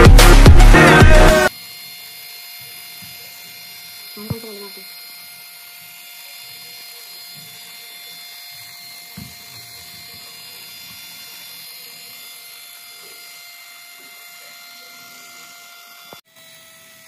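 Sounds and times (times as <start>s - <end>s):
small motors whirring: 0.8s - 17.0s.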